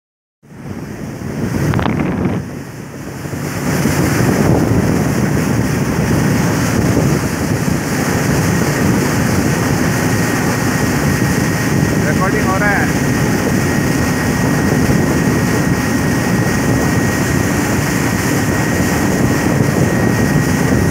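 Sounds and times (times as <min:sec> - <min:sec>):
hull rushing through water: 0:00.4 - 0:20.9
speedboat outboard motor roar: 0:00.4 - 0:20.9
wind buffeting microphone: 0:00.5 - 0:20.9.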